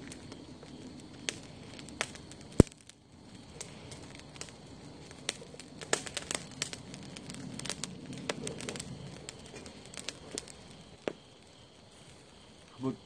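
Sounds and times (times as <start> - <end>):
fire popping: 0.0 - 13.0
steady low hiss: 0.0 - 13.0
wood fire crackling: 0.0 - 13.0.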